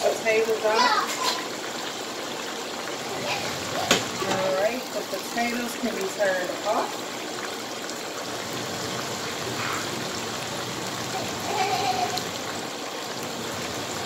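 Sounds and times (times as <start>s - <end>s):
oil sizzling and bubbling: 0.0s - 14.0s.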